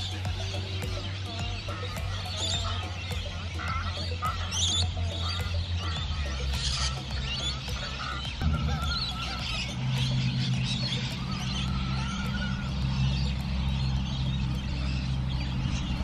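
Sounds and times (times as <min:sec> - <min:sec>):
waterbirds calling and chattering: 0:00.0 - 0:16.0
wavering whistled bird calls: 0:00.0 - 0:16.0.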